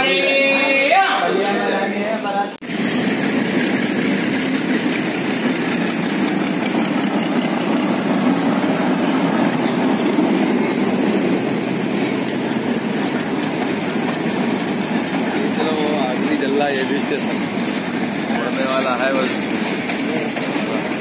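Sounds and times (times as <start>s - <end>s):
train coaches rolling past: 0.0s - 21.0s
diesel locomotive engine passing: 2.6s - 21.0s.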